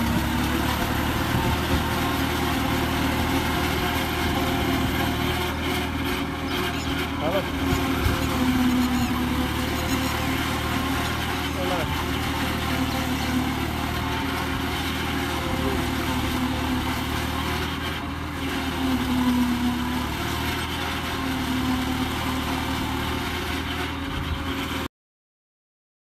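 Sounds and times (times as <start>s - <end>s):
harvester chopping maize: 0.0s - 24.8s
tractor diesel engine under load: 0.0s - 24.9s.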